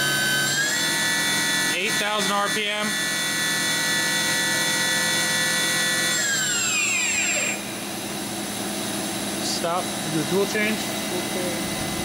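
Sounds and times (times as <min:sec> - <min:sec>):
machine spindle whining: 0:00.0 - 0:12.0.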